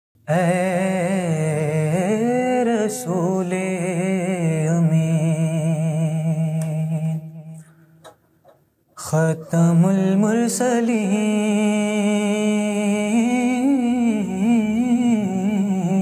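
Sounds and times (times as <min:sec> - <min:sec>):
man singing wordlessly: 0:00.2 - 0:07.7, 0:09.0 - 0:16.0.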